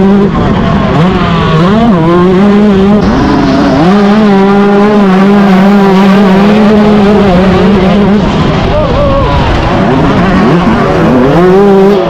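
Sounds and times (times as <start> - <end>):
motorbike engine at high revs: 0.0 - 12.0.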